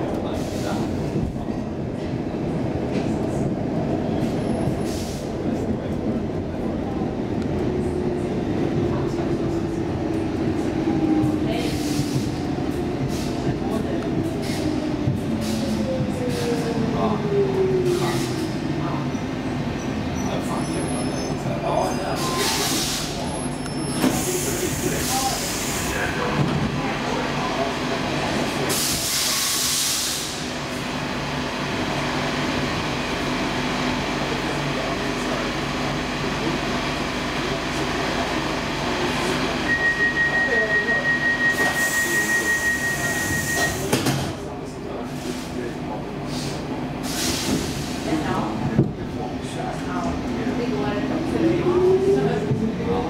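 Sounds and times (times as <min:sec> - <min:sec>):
subway train rumbling: 0:00.0 - 0:53.0.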